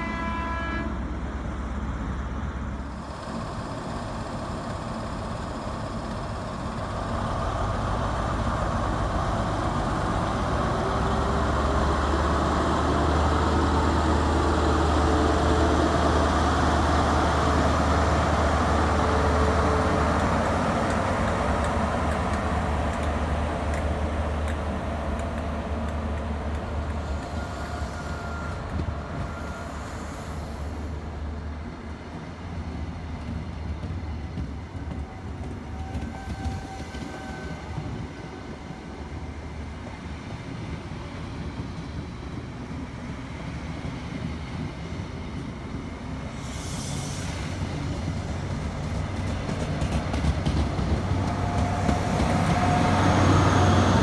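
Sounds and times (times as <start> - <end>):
train coaches rolling past: 0.0 - 54.0.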